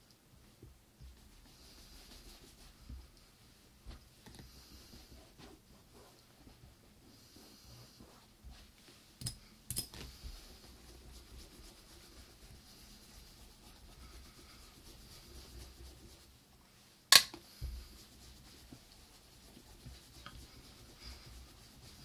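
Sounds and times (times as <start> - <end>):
rubbing on leather boot: 1.0 - 9.1, 10.0 - 16.4, 17.5 - 22.0.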